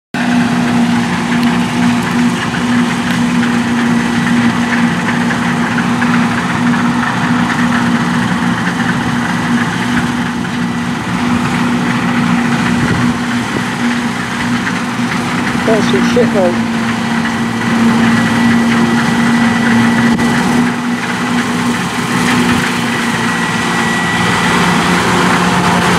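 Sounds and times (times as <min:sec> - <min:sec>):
combine harvester drone: 0:00.2 - 0:25.9.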